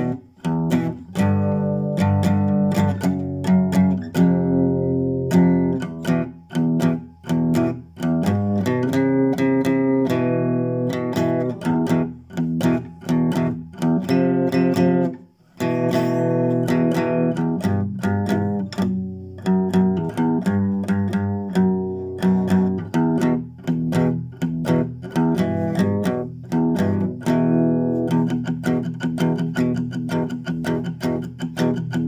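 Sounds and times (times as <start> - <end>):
classical guitar strummed chords: 0.0 - 32.0.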